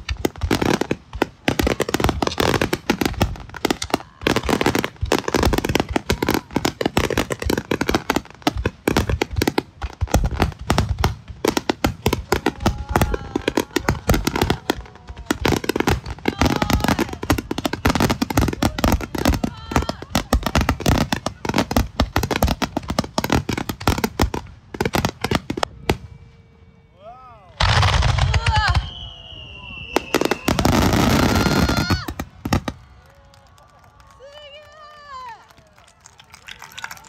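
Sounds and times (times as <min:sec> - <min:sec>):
fireworks bangs: 0:00.0 - 0:26.6, 0:27.5 - 0:37.0
fireworks crackling: 0:00.0 - 0:26.6, 0:27.5 - 0:37.0.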